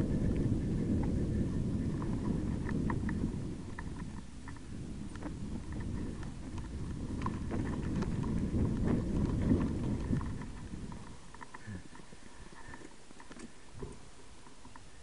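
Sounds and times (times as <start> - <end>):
bike clicks and rattles: 0.0 - 15.0
low rumble of ground and wind: 0.0 - 15.0.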